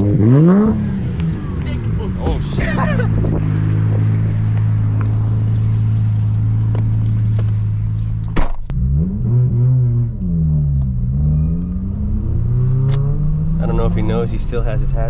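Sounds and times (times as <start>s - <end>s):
car engine revving inside cabin: 0.0s - 15.0s.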